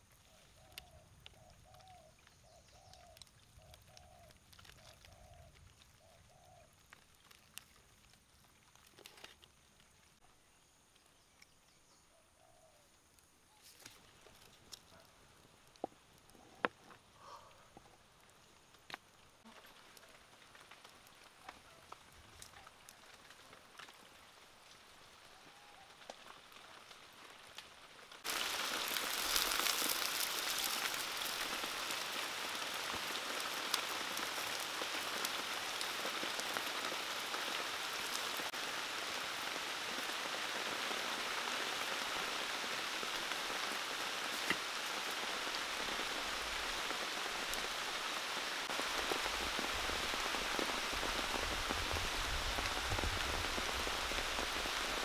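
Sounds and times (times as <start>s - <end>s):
steady rain falling: 0.0s - 11.6s, 12.6s - 55.0s.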